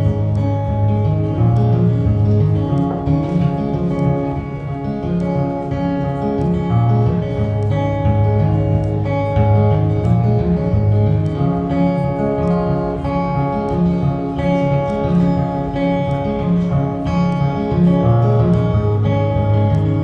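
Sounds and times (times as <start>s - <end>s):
acoustic guitar strumming chords: 0.0s - 20.0s
sustained bass notes: 0.0s - 20.0s.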